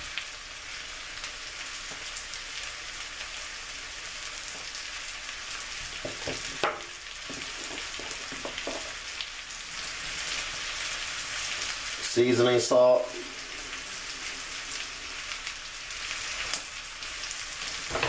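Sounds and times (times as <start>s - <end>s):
potatoes sizzling in oil: 0.0s - 18.0s.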